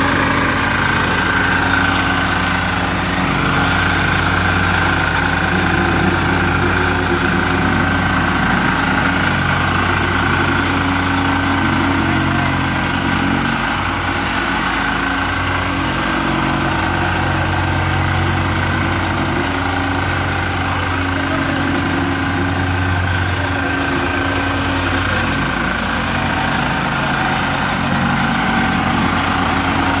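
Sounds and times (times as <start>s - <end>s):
plate compactor running: 0.0s - 30.0s.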